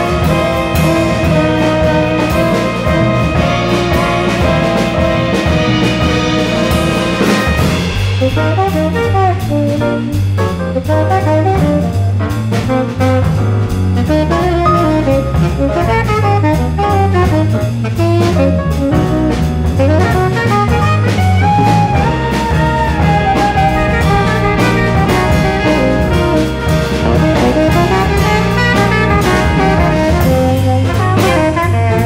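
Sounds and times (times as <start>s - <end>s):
drum kit keeping time: 0.0s - 32.0s
tenor saxophone jazz solo: 0.0s - 32.0s
walking bass line: 0.0s - 32.0s.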